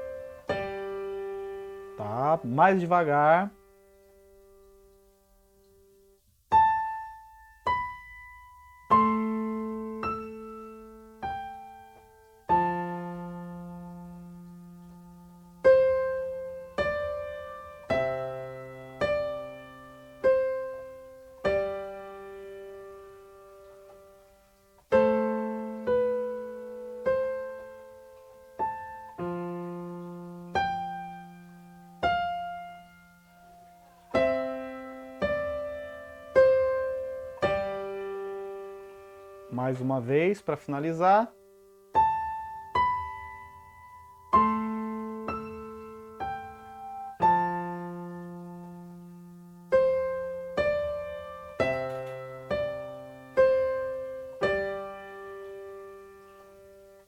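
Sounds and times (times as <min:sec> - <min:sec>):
keyboard notes and chords: 0:00.0 - 0:57.0.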